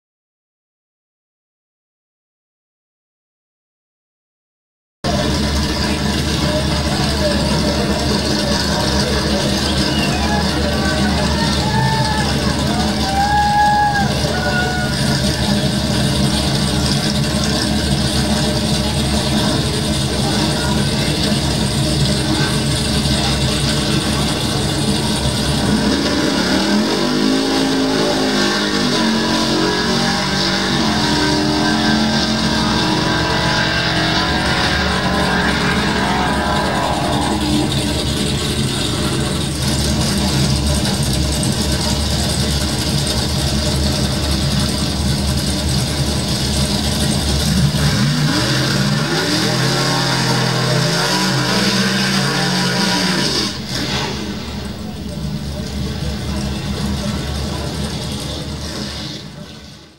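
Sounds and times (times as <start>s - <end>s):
race car engines running: 5.0s - 59.9s.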